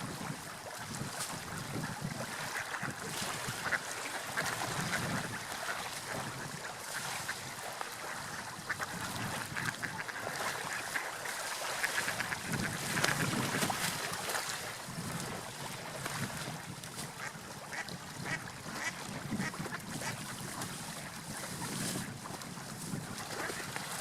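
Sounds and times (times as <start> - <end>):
sea waves: 0.0 - 24.0
wind: 0.0 - 24.0.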